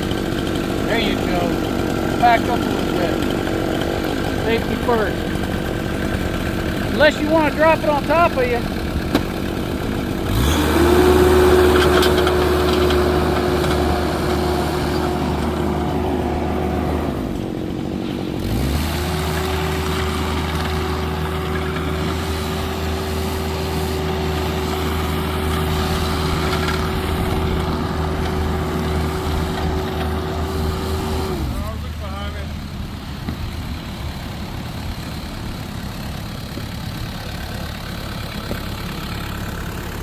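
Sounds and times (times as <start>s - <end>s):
engine revving: 0.0s - 40.0s.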